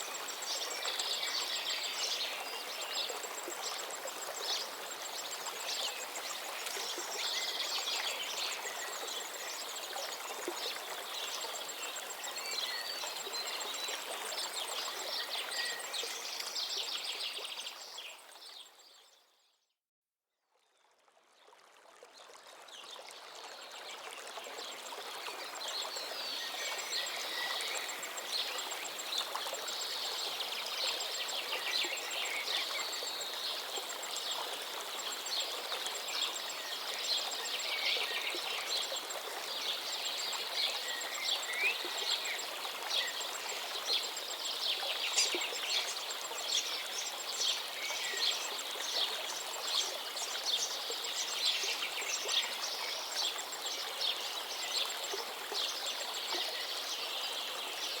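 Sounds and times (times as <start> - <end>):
stream water flowing: 0.0 - 19.0, 20.8 - 58.0.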